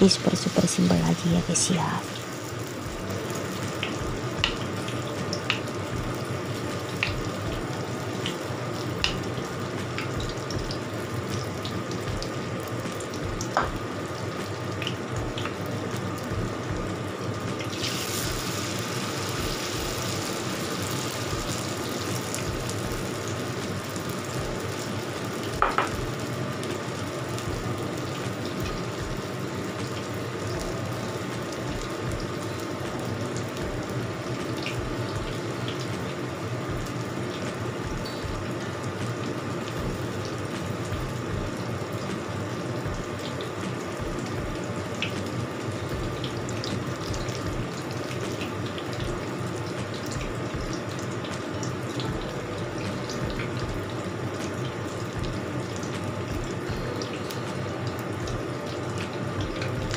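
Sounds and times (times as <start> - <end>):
fritters deep-frying in oil: 0.0 - 59.9.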